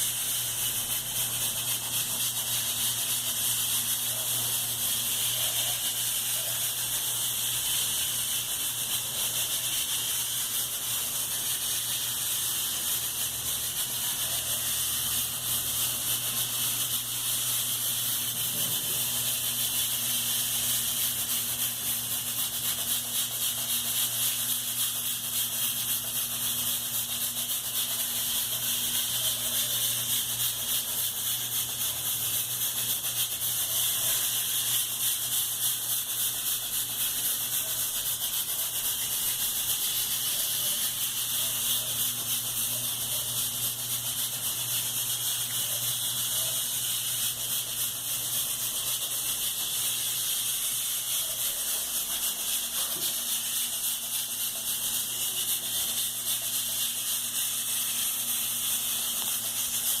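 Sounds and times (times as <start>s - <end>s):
high-pitched hiss: 0.0s - 60.0s.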